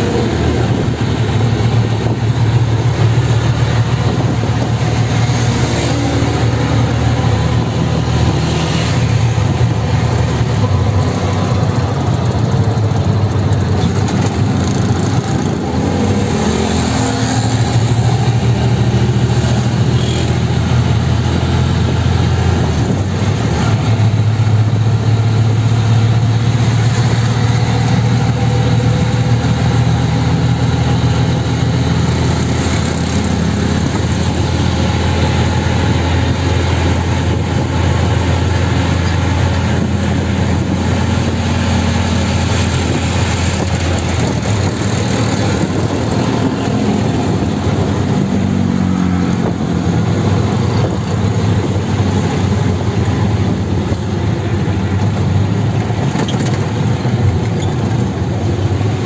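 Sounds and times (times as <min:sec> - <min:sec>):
auto-rickshaw engine running: 0:00.0 - 0:59.0
road and wind noise: 0:00.0 - 0:59.0.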